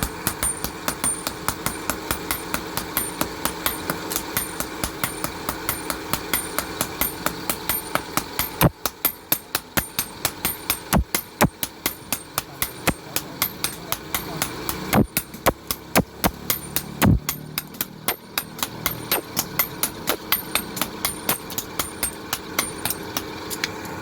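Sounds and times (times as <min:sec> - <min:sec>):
hammers ringing on anvil: 0:00.0 - 0:23.4
steady background hum: 0:00.0 - 0:24.0.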